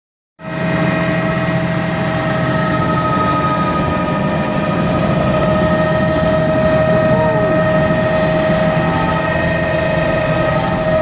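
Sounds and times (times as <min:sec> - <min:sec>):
helicopter turbine and rotors: 0:00.4 - 0:11.0.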